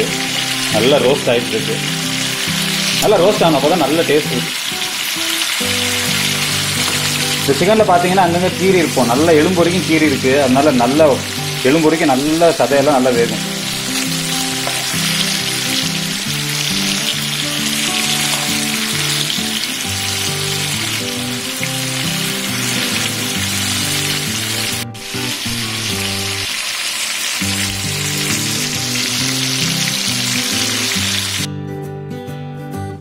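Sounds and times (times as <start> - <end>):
chicken sizzling in oil: 0.0 - 31.5
background music: 0.0 - 33.0.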